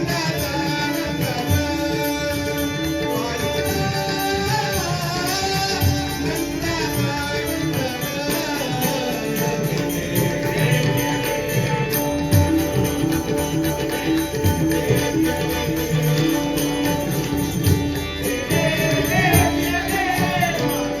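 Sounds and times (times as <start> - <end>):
people singing devotional song: 0.0 - 21.0.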